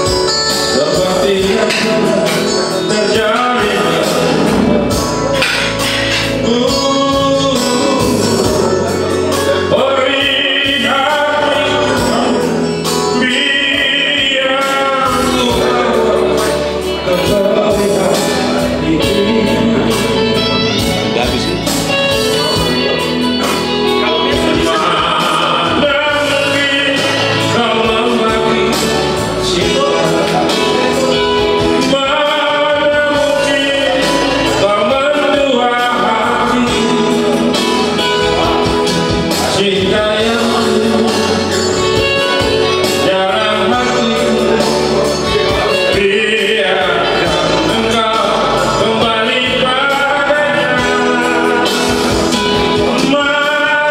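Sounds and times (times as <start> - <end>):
instrumental accompaniment: 0.0 - 53.9
man singing into a microphone: 0.0 - 53.9.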